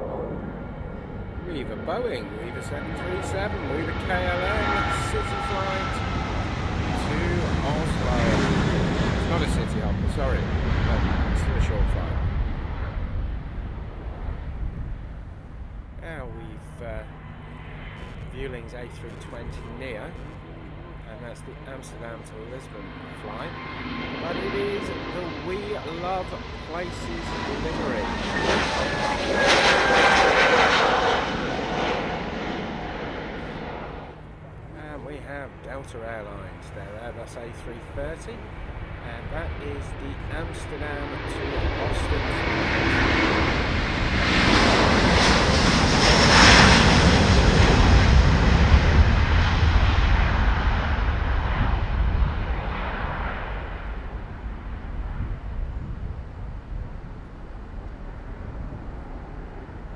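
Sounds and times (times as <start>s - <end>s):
jet engines passing: 0.0s - 59.9s.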